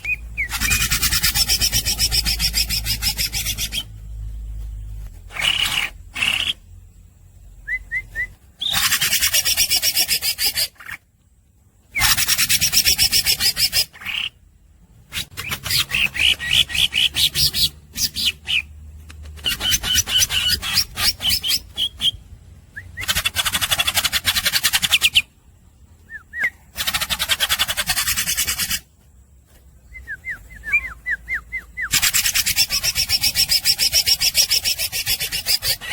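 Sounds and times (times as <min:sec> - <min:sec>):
bird chirps: 0:00.0 - 0:11.1, 0:11.8 - 0:35.9
bird singing raspy rattling notes: 0:00.0 - 0:35.9.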